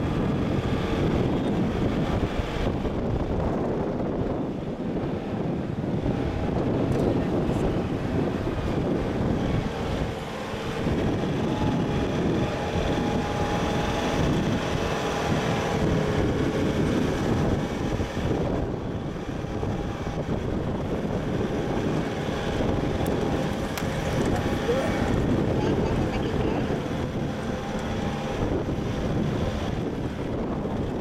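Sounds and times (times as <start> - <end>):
continuous rumble: 0.0 - 31.0
vehicle engine droning: 0.0 - 31.0
wind buffeting microphone: 0.0 - 31.0.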